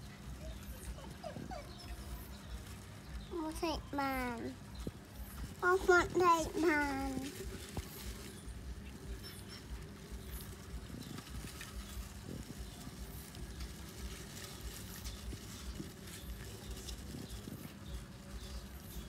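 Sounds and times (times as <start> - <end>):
hamsters rustling in wood shavings: 0.0 - 19.0.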